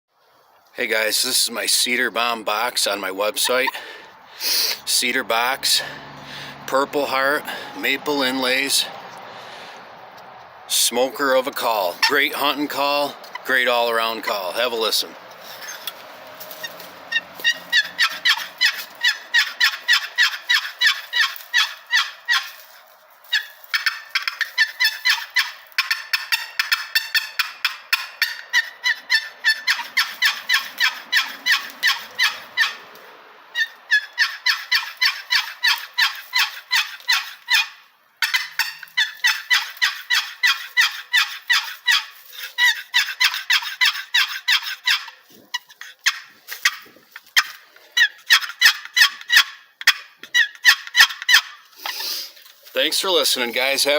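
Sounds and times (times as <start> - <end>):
rasping turkey call yelps: 3.4 - 52.5.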